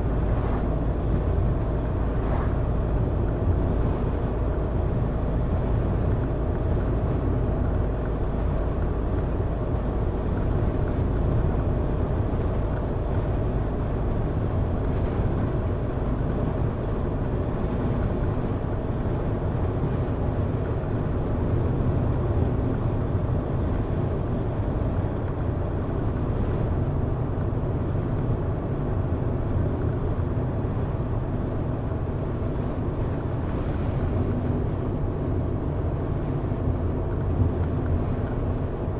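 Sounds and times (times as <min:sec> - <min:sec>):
car engine and tyre drone: 0:00.0 - 0:38.9.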